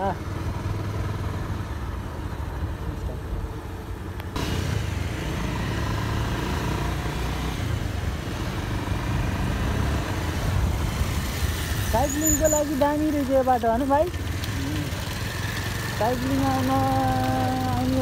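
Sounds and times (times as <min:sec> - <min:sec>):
motorcycle engine rumble: 0:00.0 - 0:18.0
wind and road noise: 0:00.0 - 0:18.0.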